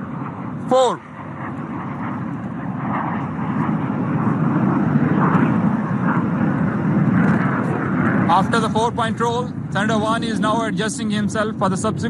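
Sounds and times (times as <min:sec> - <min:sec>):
jet flying overhead: 0:00.0 - 0:12.0.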